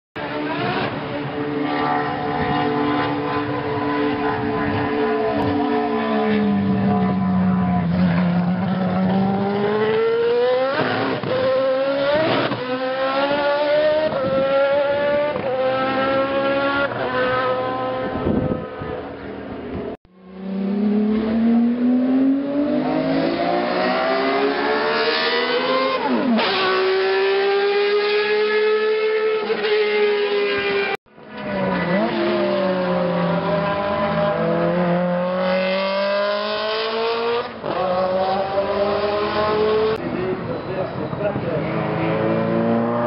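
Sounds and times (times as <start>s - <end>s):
racing car engines passing: 0.2s - 43.0s.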